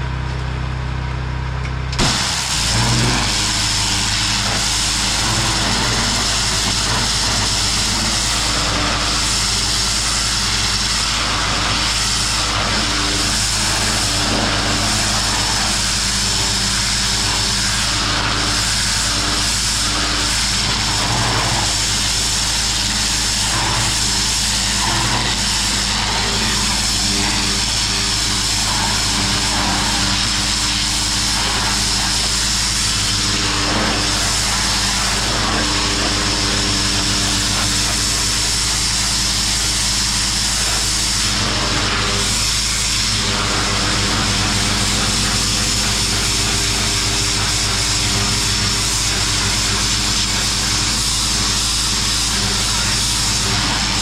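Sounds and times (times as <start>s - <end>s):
pressure washer motor and pump: 0.0s - 54.0s
water jet hissing on concrete: 1.9s - 54.0s.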